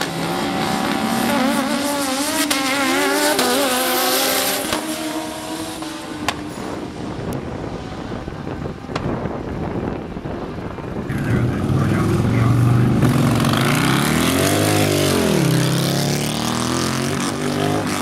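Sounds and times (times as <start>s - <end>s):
racing motorcycles accelerating: 0.0s - 18.0s.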